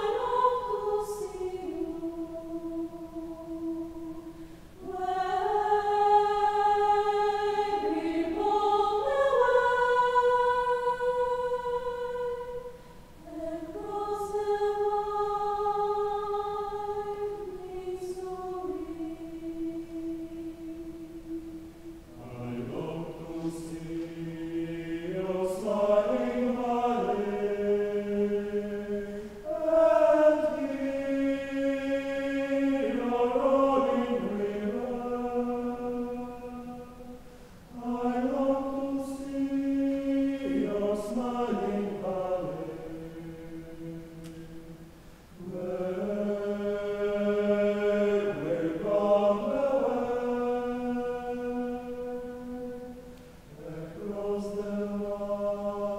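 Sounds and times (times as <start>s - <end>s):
mixed choir singing: 0.0s - 55.9s.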